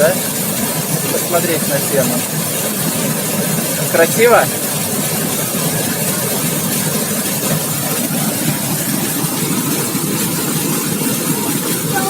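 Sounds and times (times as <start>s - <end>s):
waterfall pouring into pool: 0.0s - 12.0s.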